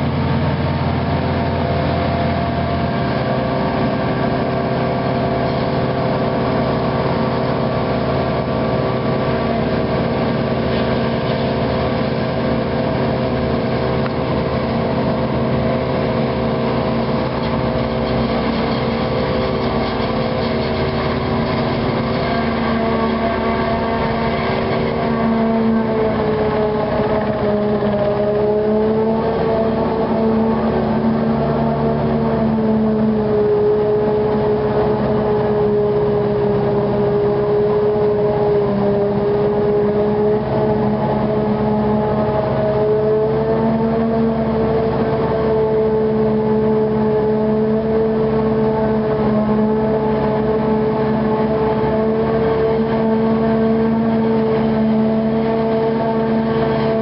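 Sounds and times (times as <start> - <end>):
diesel machinery running under load: 0.0 - 57.0.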